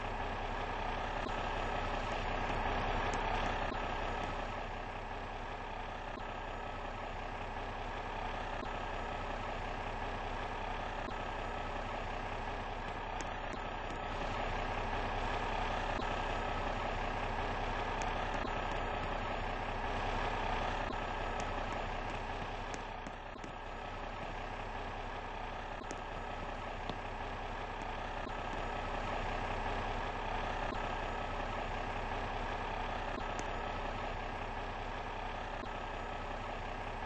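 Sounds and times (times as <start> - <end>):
fire engine motor running: 0.0 - 37.0.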